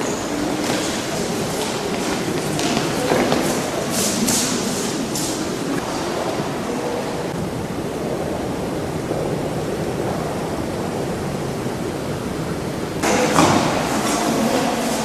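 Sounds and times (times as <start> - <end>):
room ambience rushing noise: 0.0 - 15.0.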